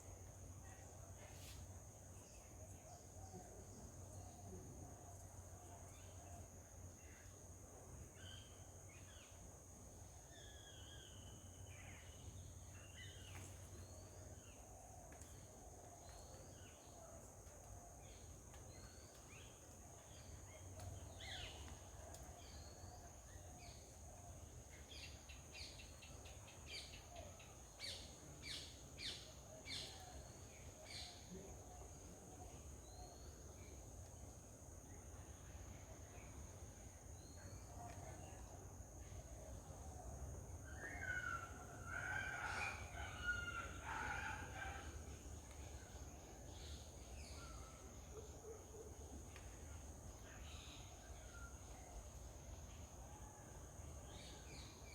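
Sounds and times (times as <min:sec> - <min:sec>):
faint birdsong: 0:00.0 - 0:54.9.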